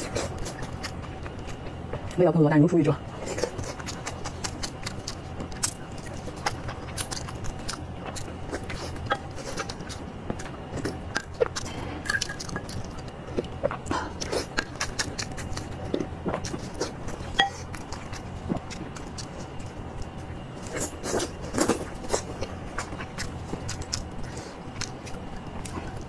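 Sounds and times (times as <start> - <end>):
person chewing soft food: 0.0 - 2.2, 3.0 - 26.0.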